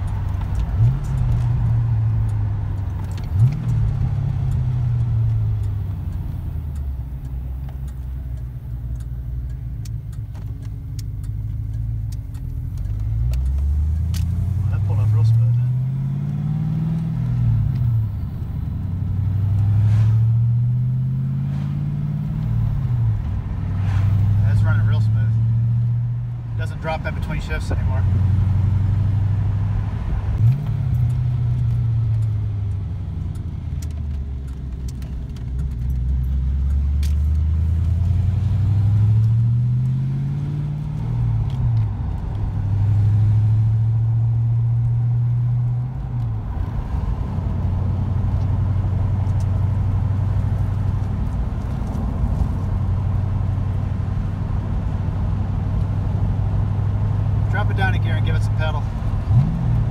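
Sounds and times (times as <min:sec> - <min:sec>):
car engine revving through gear changes: 0:00.0 - 0:59.9.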